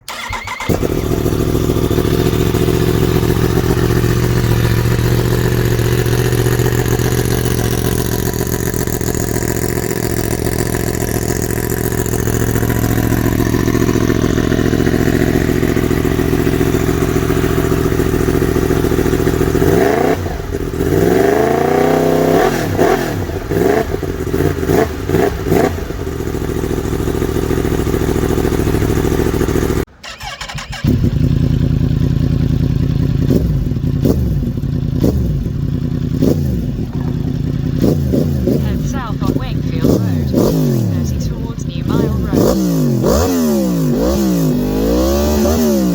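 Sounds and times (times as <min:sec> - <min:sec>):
motorcycle engine idling: 0:00.0 - 0:45.9
motorcycle throttle blips: 0:00.0 - 0:45.9.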